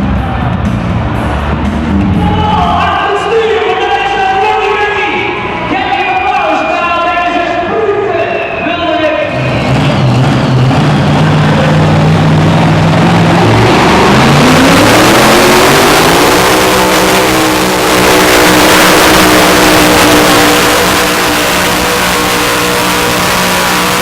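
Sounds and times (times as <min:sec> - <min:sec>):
tractor engine revving loud: 0:00.0 - 0:24.0.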